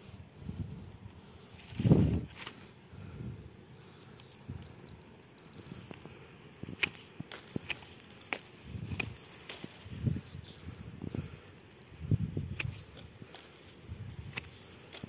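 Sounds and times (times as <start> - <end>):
insect chirring: 0.0 - 15.0.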